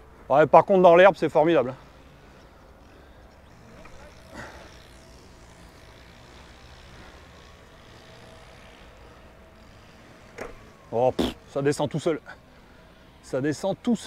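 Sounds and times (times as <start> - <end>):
electric motor whine: 1.7 - 14.0.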